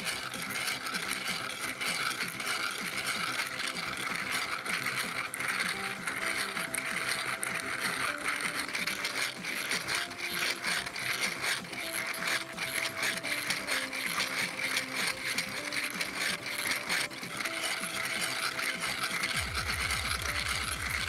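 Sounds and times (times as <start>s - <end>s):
background music: 0.0s - 21.0s
plastic engine model clicking rattle: 0.0s - 21.0s.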